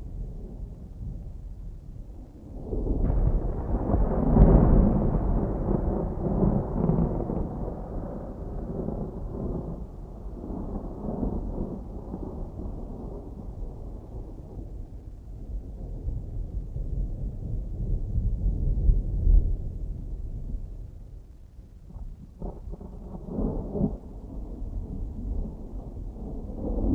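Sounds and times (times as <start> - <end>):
distant thunder rumbling: 0.0 - 21.2, 21.8 - 26.9.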